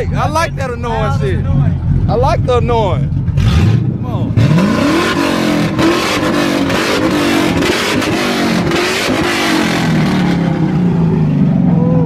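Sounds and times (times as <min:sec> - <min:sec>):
car engine revving loud exhaust: 0:00.0 - 0:12.0.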